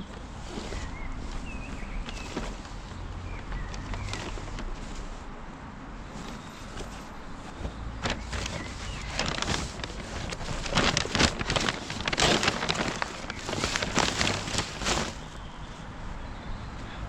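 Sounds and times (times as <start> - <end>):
plastic bags rustling and crinkling: 0.0 - 5.4, 6.1 - 15.6.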